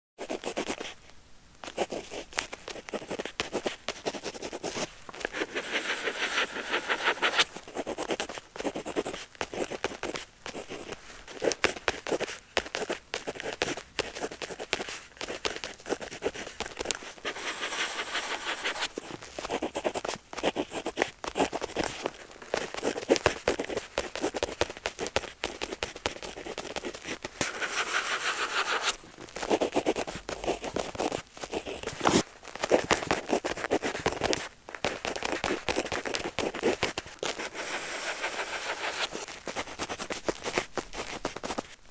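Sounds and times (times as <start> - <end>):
pen scratching on paper: 0.2 - 1.0, 1.7 - 41.2.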